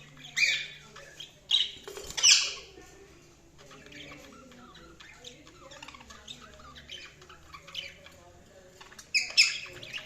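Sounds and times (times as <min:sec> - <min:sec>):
budgies chirping: 0:00.0 - 0:10.0.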